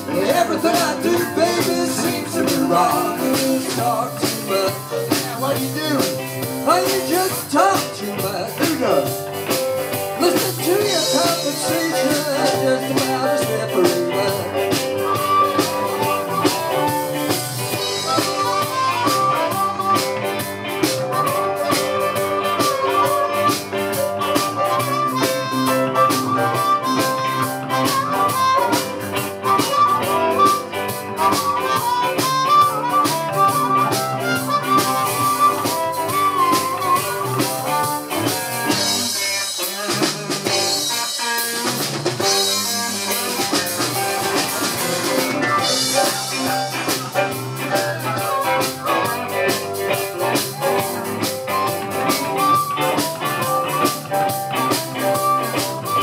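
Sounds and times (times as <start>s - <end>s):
guitar chords: 0.0s - 56.0s
steady drum beat: 0.0s - 56.0s
harmonica wailing solo: 0.1s - 7.9s, 10.2s - 56.0s.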